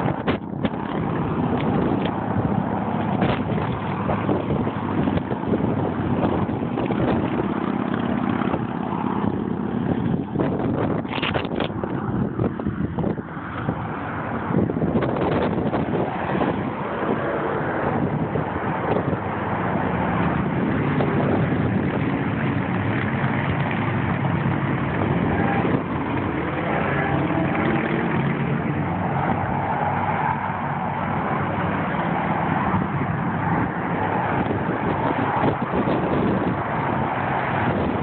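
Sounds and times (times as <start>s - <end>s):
freeway traffic rushing: 0.0s - 38.0s.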